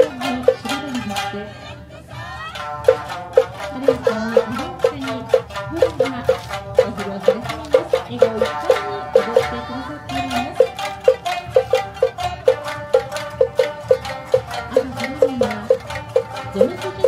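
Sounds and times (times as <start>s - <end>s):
sharp percussion strikes: 0.0s - 1.3s, 2.6s - 17.0s
shamisen plucking: 0.0s - 1.5s, 2.5s - 17.0s.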